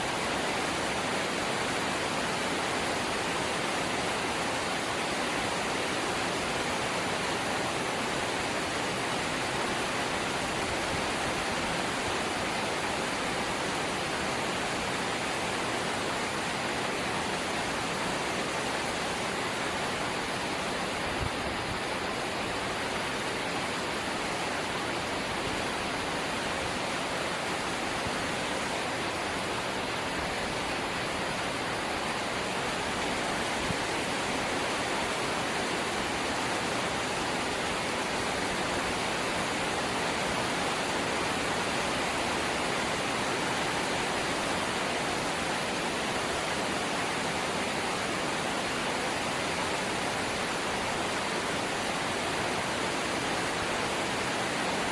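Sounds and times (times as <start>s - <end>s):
light rain hissing: 0.0s - 54.9s.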